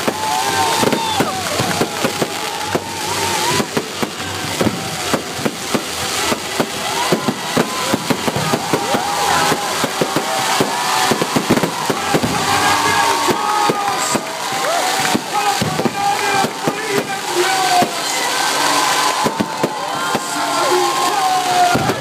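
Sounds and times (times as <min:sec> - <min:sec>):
fireworks bangs and crackles: 0:00.0 - 0:22.0
fireworks whistling: 0:00.0 - 0:22.0.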